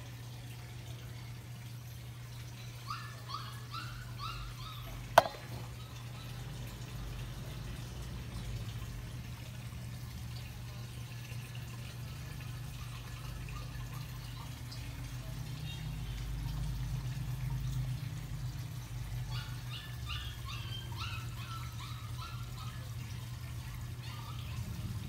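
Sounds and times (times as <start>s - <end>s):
water trickling and dripping: 0.0s - 25.0s.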